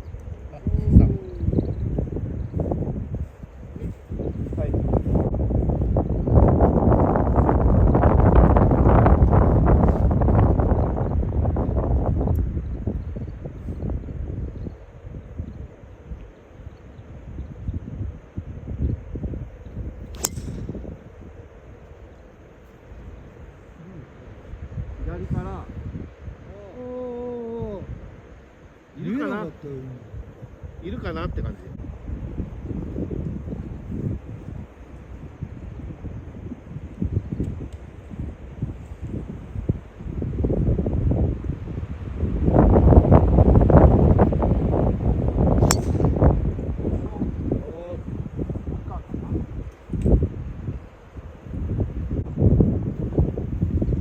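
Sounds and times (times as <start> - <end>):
wind buffeting microphone: 0.0 - 28.2, 29.0 - 54.0.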